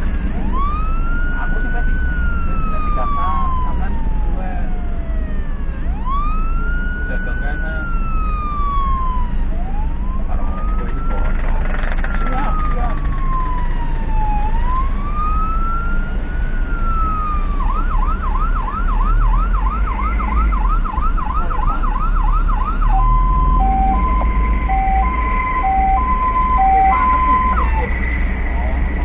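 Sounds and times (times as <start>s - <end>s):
ambulance siren: 0.0s - 29.0s
vehicle drone: 0.0s - 29.0s.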